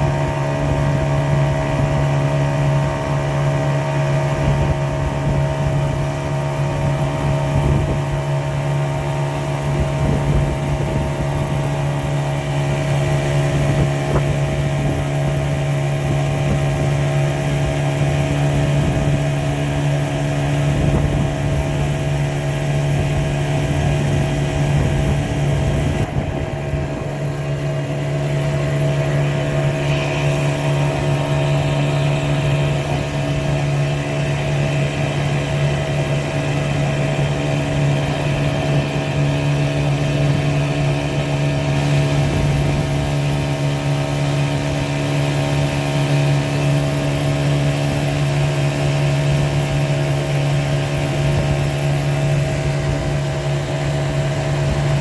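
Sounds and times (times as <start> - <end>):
boat engine humming: 0.0 - 55.0
water rushing past hull: 0.0 - 55.0.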